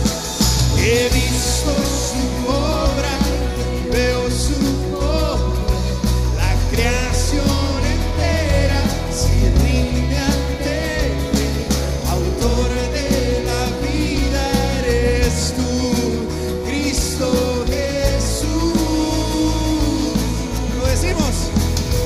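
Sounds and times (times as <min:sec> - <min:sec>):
live band playing praise song: 0:00.0 - 0:22.0
person singing: 0:00.0 - 0:22.0.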